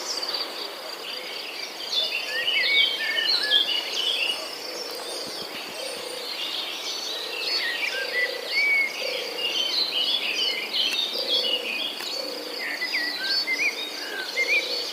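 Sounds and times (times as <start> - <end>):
birds chirping and twittering: 0.0 - 14.9.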